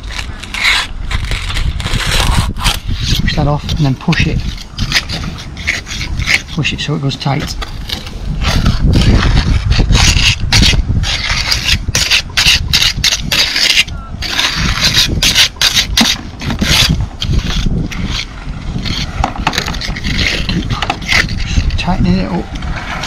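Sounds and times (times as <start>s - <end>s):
trowel scraping mortar: 0.0s - 23.0s.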